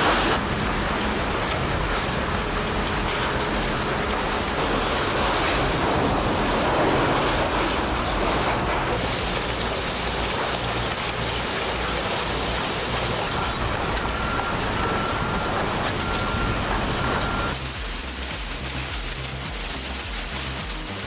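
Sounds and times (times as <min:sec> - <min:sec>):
faint high whine: 0:00.0 - 0:21.0
heavy machinery grinding: 0:00.0 - 0:21.0
low engine hum: 0:00.0 - 0:21.0.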